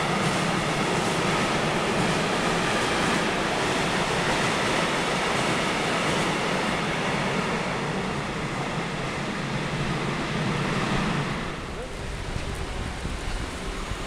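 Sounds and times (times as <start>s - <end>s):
train running past on track: 0.0s - 14.0s.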